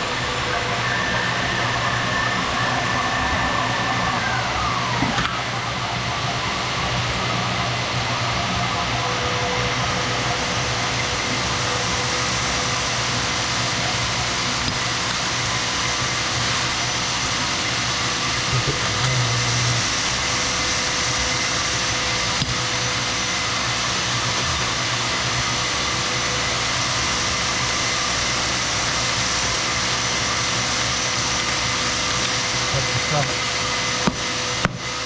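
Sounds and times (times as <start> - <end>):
power tool motor whining: 0.0 - 35.0.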